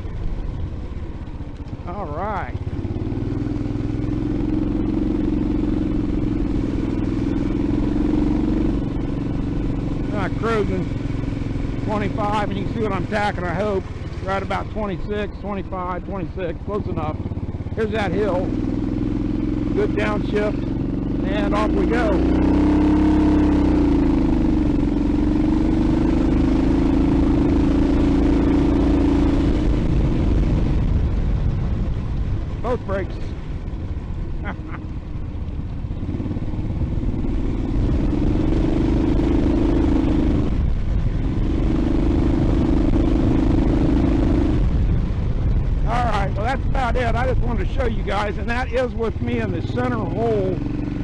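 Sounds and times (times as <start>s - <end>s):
mini bike engine running: 0.0s - 51.0s.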